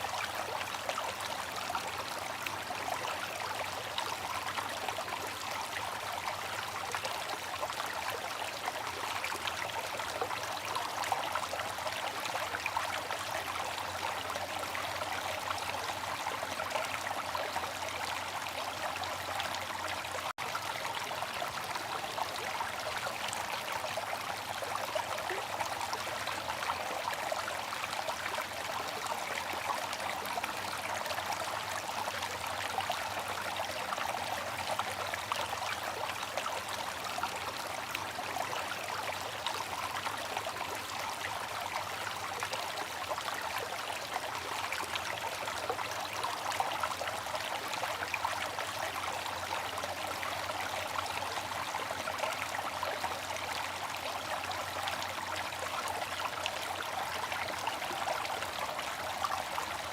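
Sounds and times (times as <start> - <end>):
fountain water trickling: 0.0 - 59.9.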